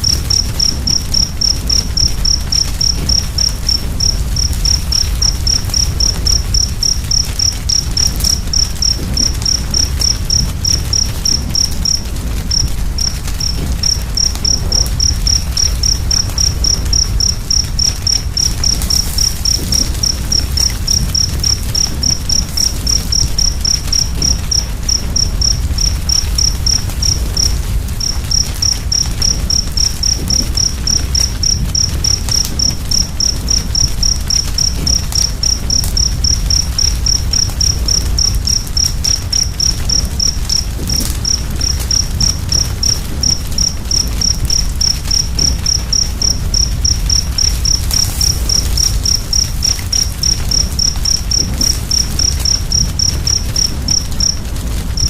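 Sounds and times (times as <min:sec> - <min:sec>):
cricket chirping: 0:00.0 - 0:55.0
wood fire rumble and crackling: 0:00.0 - 0:55.0.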